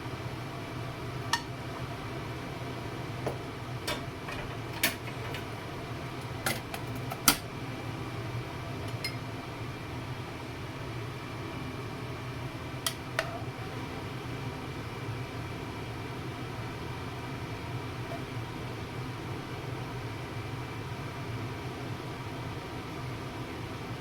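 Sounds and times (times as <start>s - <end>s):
fan humming: 0.0s - 19.6s.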